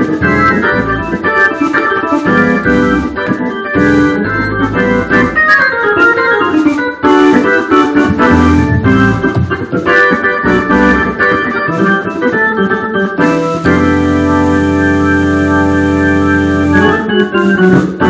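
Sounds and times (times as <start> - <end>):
organ chords over bass notes: 0.0 - 18.0.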